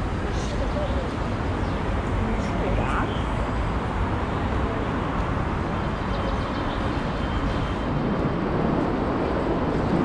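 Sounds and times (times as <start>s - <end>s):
traffic passing: 0.0s - 10.0s.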